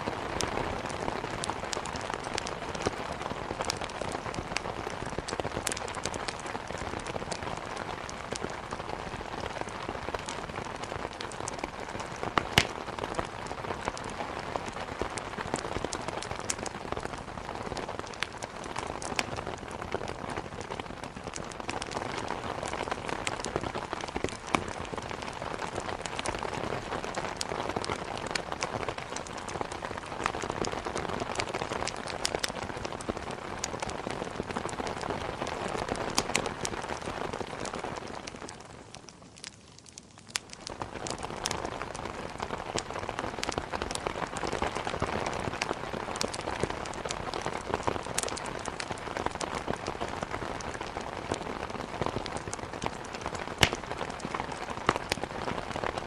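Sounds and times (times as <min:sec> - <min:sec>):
steady rain hiss: 0:00.0 - 0:56.0
wood fire crackling and popping: 0:00.1 - 0:56.0.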